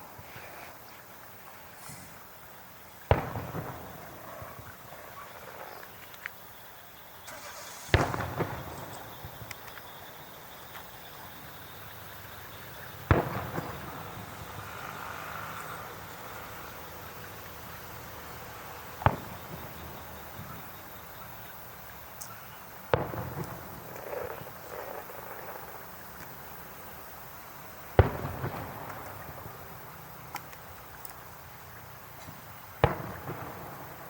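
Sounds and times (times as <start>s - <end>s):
fireworks bursting: 1.7s - 34.0s.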